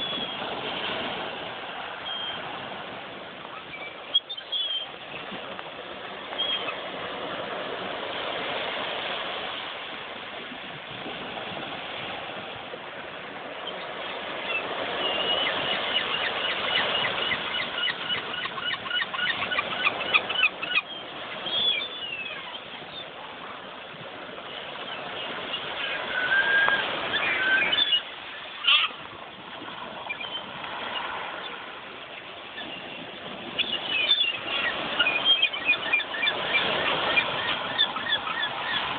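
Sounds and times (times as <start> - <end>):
gulls calling: 0.0 - 8.8, 13.4 - 38.9
surf: 0.0 - 38.9
wind: 0.0 - 38.9.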